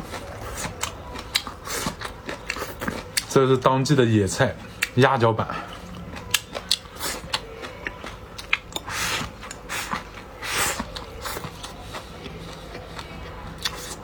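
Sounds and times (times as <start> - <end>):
person chewing and eating: 0.0 - 14.0.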